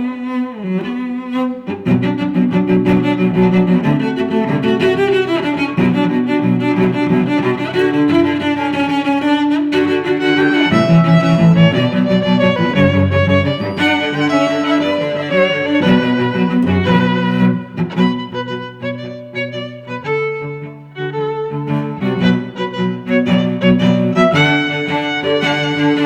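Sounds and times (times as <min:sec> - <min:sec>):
cello: 0:00.0 - 0:26.0
violin: 0:00.0 - 0:26.0.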